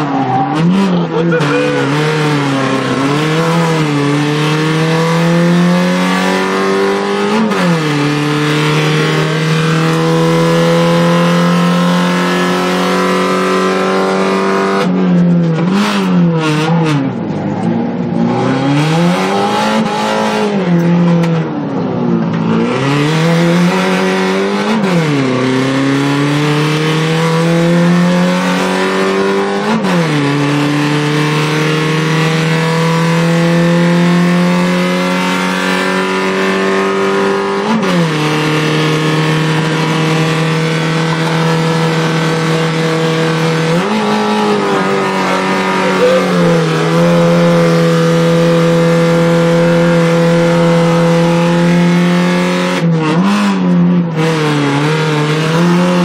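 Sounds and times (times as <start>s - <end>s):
rally car engine accelerating: 0.0s - 56.0s.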